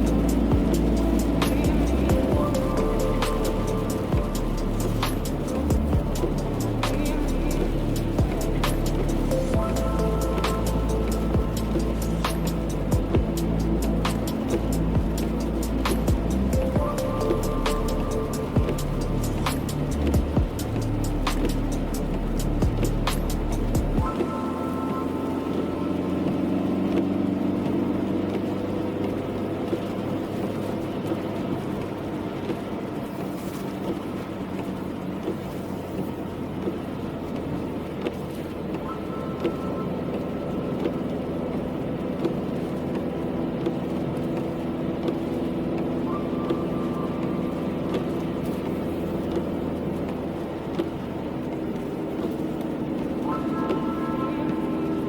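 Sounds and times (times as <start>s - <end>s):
car engine and road noise: 0.0s - 55.0s
light ticks: 0.0s - 55.0s.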